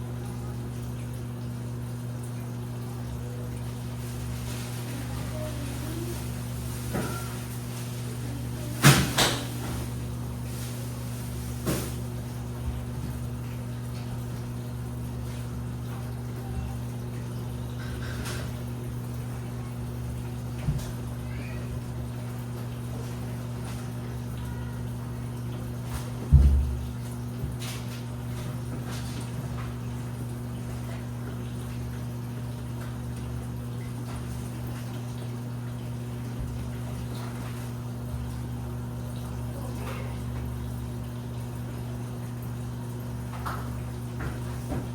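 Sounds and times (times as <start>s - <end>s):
faint water sounds: 0.0s - 44.9s
washing machine humming: 0.0s - 44.9s.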